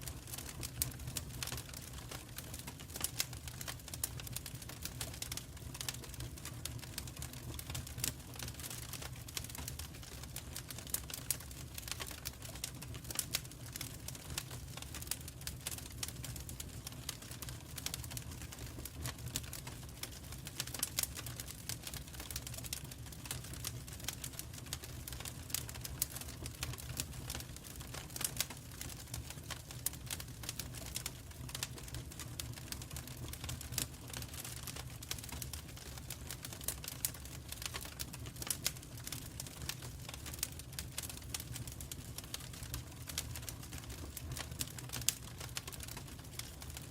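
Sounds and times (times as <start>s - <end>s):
wood fire crackling and popping: 0.0s - 46.9s
low rumble of flames: 0.1s - 46.9s.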